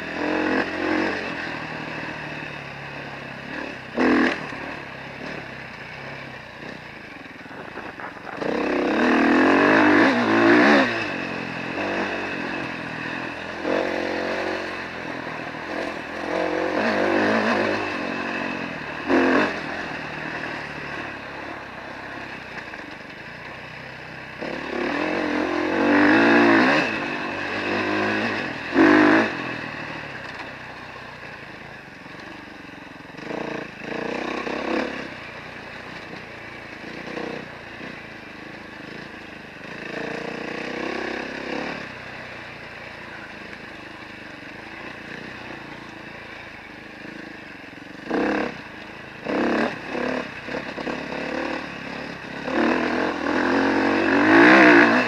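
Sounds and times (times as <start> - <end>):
off-road vehicle engine revving: 0.0 - 31.3, 33.0 - 55.0.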